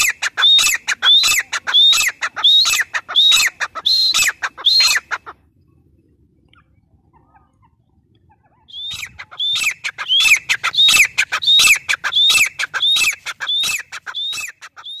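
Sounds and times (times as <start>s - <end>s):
bird calling: 0.0s - 5.4s, 6.5s - 15.0s.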